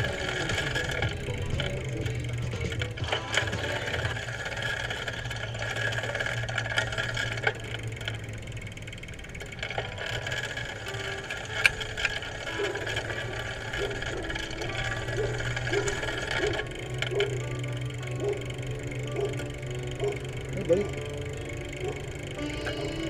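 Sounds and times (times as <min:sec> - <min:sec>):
bicycle click or rattle: 0:00.0 - 0:23.0
bicycle rolling on pavement: 0:00.0 - 0:23.0.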